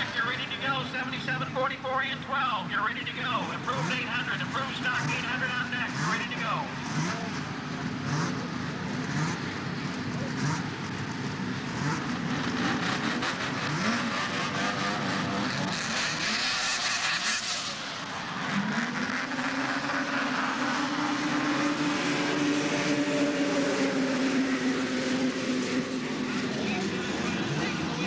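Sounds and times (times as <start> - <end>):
snowmobile engines at high revs: 2.9 - 28.0.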